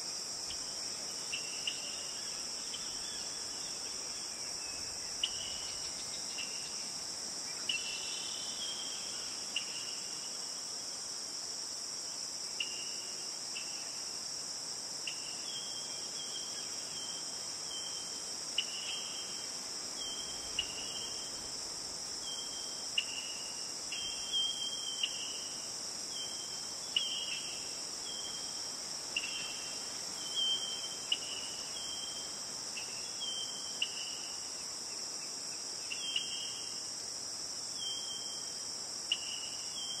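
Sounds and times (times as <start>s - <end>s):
high-pitched insect chorus: 0.0s - 40.0s
insect chirps: 0.0s - 40.0s.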